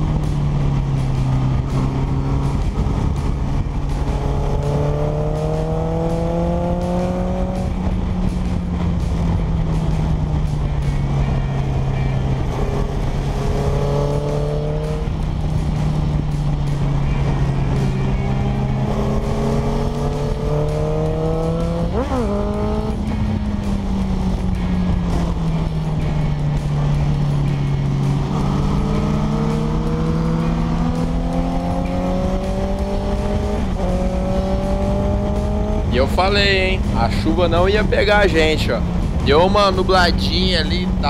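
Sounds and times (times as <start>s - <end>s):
motorcycle engine revving: 0.0s - 41.0s
wind rushing over microphone: 0.0s - 41.0s.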